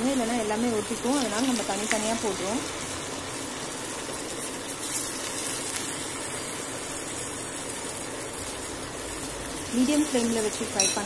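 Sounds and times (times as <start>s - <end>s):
deep-frying in bubbling oil: 0.0s - 11.0s.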